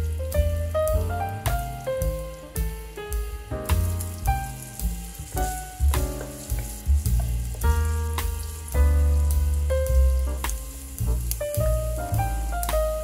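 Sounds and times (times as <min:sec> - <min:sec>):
background music with steady beat: 0:00.0 - 0:13.0
ham sizzling in oil: 0:00.0 - 0:13.0.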